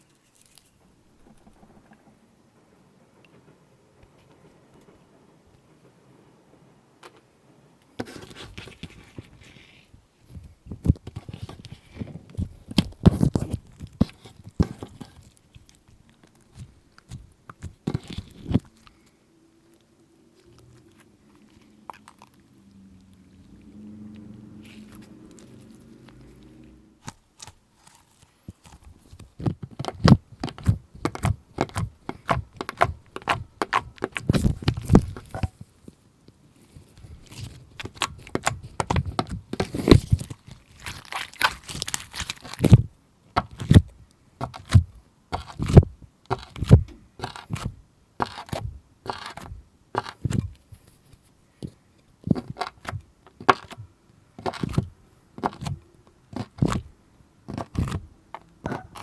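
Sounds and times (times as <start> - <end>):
slime squishing by hand: 8.0 - 59.0.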